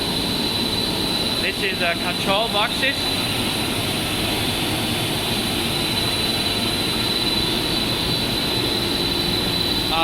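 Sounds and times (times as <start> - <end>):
high constant whine: 0.0 - 10.0
loud machine noise: 0.0 - 10.0.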